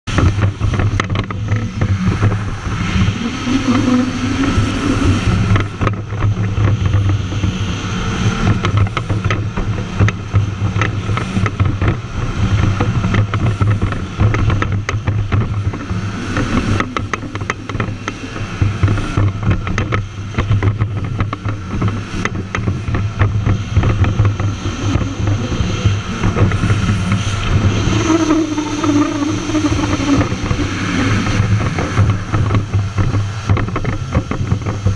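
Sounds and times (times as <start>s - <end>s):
jet ski engine drone: 0.0s - 34.9s
water spray slapping hull: 0.0s - 34.9s.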